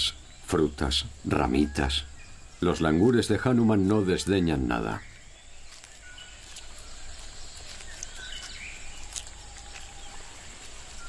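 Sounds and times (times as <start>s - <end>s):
bird chirps: 0.0s - 11.0s
insect hum: 0.0s - 11.0s.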